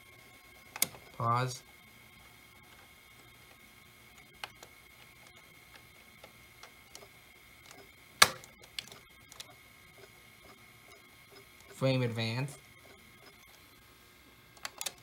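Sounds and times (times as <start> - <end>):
faint high whine: 0.0 - 15.0
tape mechanism clicks: 0.6 - 1.5, 2.2 - 13.8, 14.5 - 15.0.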